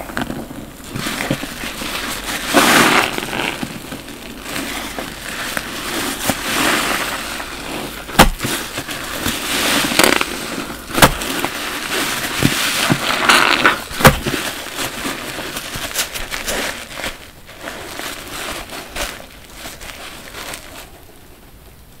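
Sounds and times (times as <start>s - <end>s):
foam crackling: 0.0s - 22.0s
wet sponge squelching: 0.8s - 20.9s.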